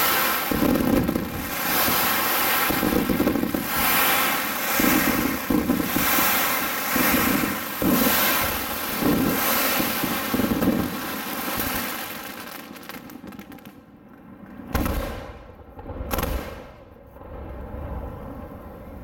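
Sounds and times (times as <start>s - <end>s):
firework sparks hissing and crackling: 0.0s - 18.1s
loud firework bangs: 0.0s - 18.2s.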